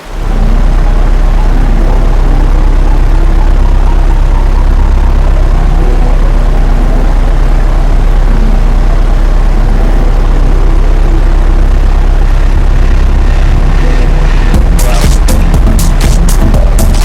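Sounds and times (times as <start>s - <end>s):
held low tones: 0.0s - 17.0s
low engine-like rumble: 0.0s - 17.0s.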